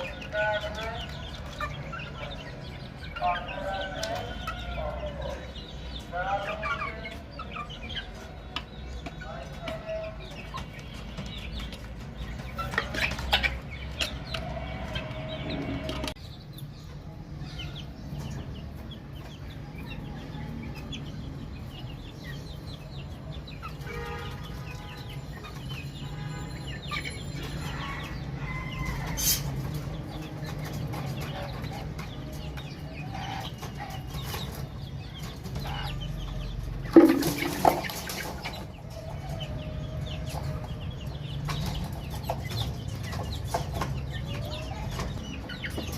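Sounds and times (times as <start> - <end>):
baby chickens peeping: 0.0 - 45.9.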